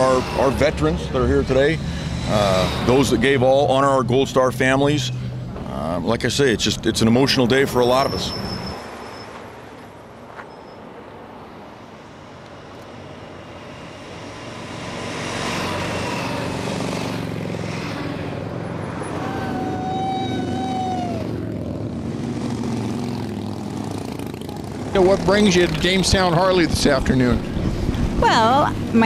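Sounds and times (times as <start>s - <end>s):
motorcycles engine rumble: 0.0s - 10.4s, 12.0s - 29.0s
highway traffic passing: 0.0s - 29.0s.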